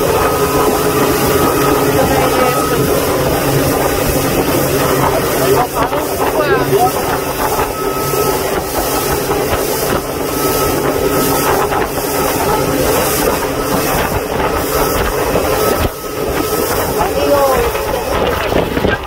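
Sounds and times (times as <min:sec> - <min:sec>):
boat motor running: 0:00.0 - 0:19.0
wind and water hiss: 0:00.0 - 0:19.0.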